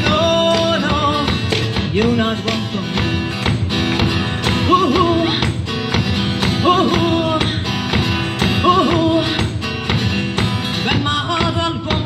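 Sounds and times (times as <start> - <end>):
acoustic guitar accompaniment: 0.0 - 12.0.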